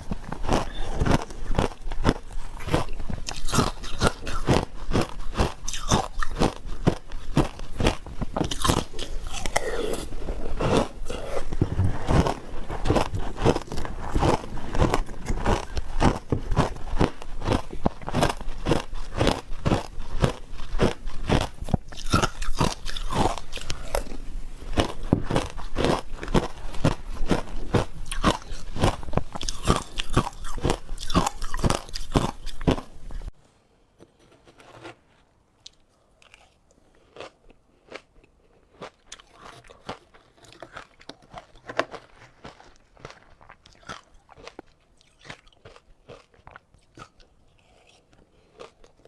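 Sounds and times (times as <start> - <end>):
ice being chewed: 0.0 - 33.3, 35.6 - 49.0.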